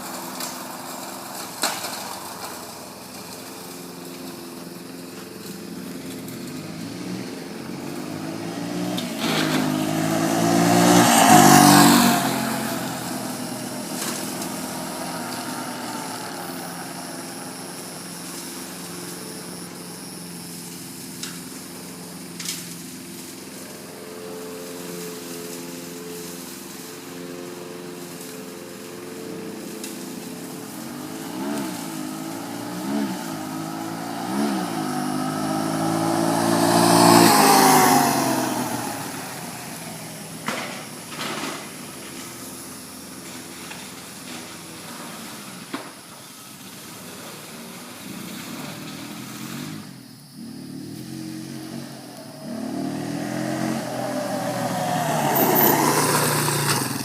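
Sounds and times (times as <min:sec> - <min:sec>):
engine revving: 0:00.0 - 0:45.9, 0:46.6 - 0:57.0.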